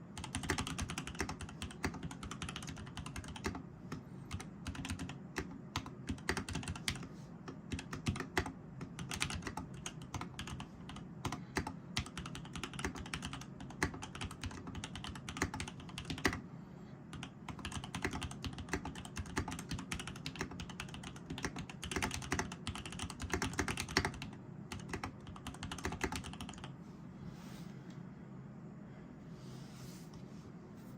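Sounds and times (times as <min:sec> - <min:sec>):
typing on mechanical keyboard: 0:00.1 - 0:16.4, 0:17.1 - 0:26.7.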